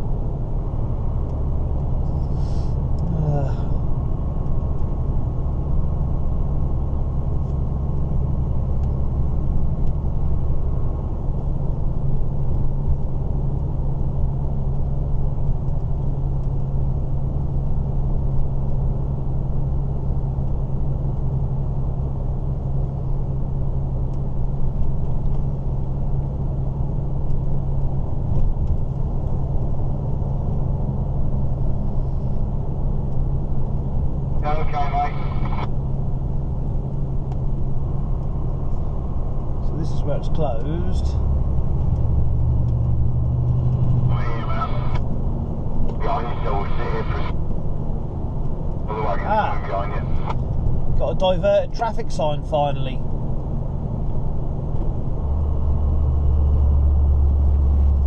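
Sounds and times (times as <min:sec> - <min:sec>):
truck diesel engine drone: 0:00.0 - 0:24.6, 0:25.5 - 0:58.0
road noise: 0:00.0 - 0:58.0.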